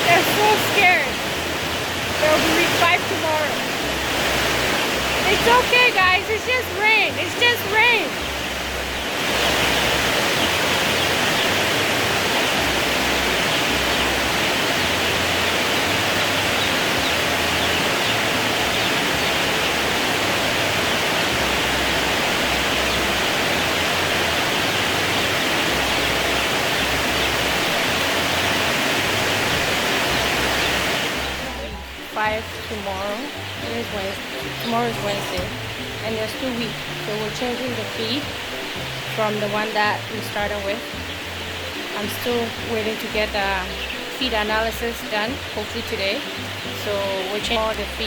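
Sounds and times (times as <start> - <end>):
rain on a roof: 7.7 - 46.8.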